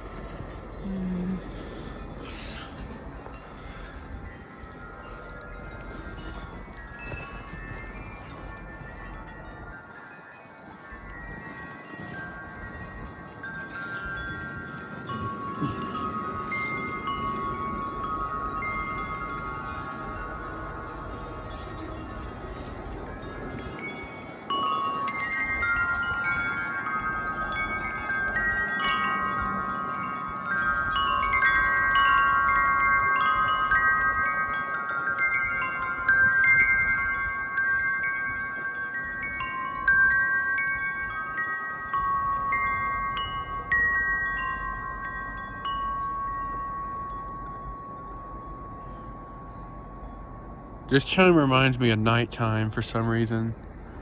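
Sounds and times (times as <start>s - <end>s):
wind chime ringing: 0.0s - 54.0s.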